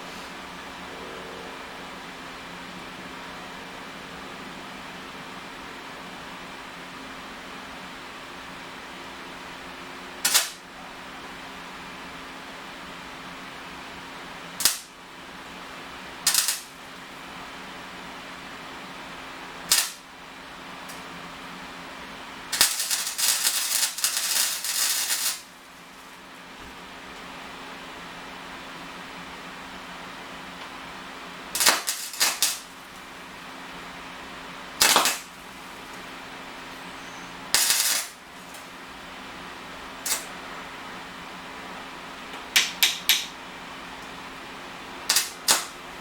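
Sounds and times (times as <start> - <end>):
steady low hum: 0.0 - 42.6.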